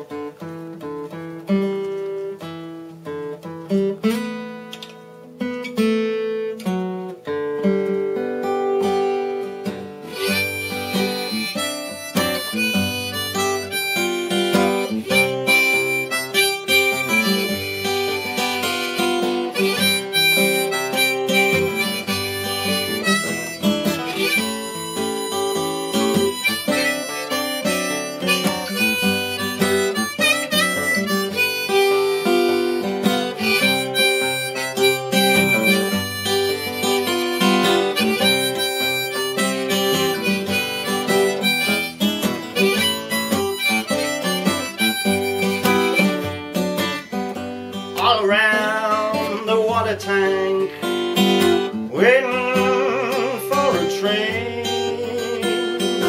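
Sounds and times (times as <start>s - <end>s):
acoustic guitar picking: 0.0s - 56.0s
harmonica playing: 10.0s - 56.0s.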